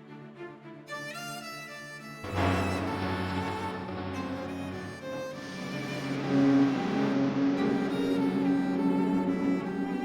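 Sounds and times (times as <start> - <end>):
bowed string music: 0.0 - 10.0.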